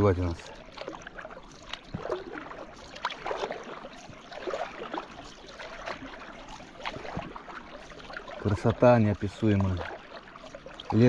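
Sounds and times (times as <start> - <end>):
oars dipping and splashing: 0.0 - 11.0
water trickling and gurgling: 0.0 - 11.0.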